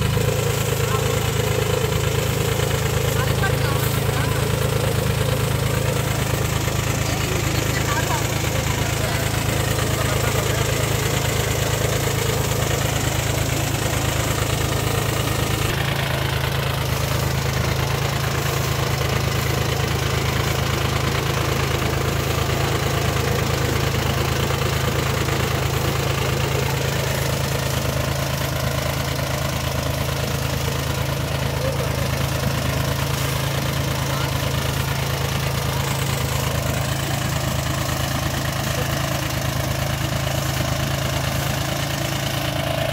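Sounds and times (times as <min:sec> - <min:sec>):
small diesel engine running: 0:00.0 - 0:42.9.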